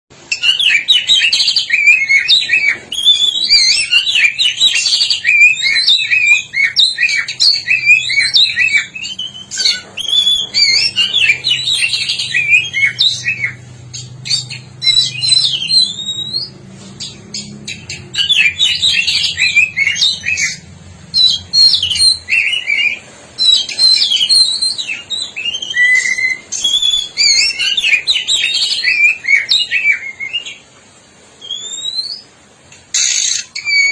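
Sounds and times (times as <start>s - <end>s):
bird singing whistled phrases: 0.3s - 30.6s, 31.4s - 32.3s, 32.9s - 33.9s.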